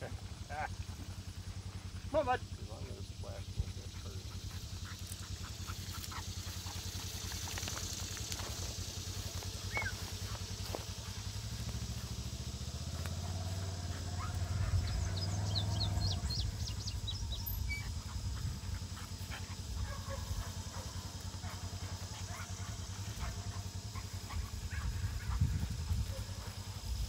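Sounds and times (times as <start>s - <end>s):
birds chirping: 0.0s - 27.0s
motor engine droning: 0.0s - 27.0s.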